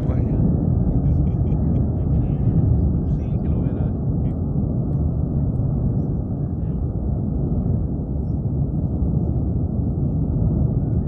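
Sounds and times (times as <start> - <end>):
volcano roaring: 0.0 - 11.0.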